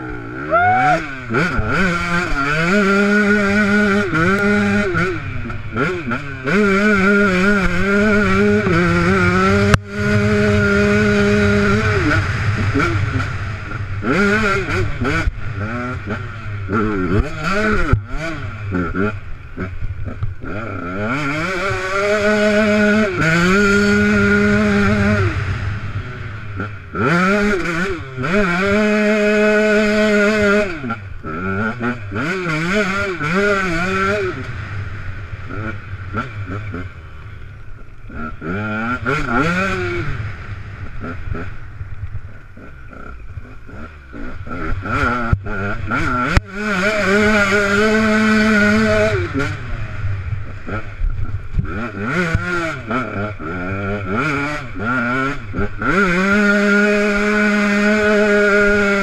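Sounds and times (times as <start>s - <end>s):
motorbike engine revving: 0.0s - 59.0s
wind: 0.0s - 59.0s.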